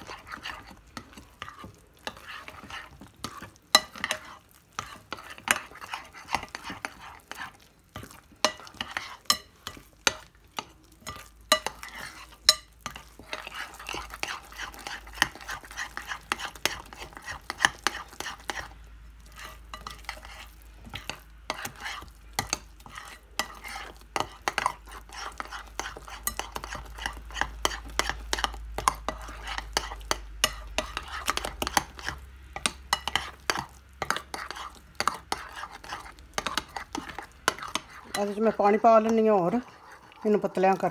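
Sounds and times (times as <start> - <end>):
batter stirred in glass bowl: 0.0 - 40.9
dough squishing by hand: 0.0 - 40.9.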